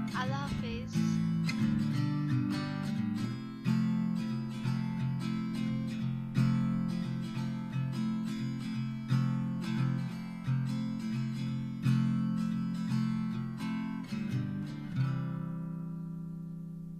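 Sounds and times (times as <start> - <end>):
strummed guitar chords: 0.0 - 16.9.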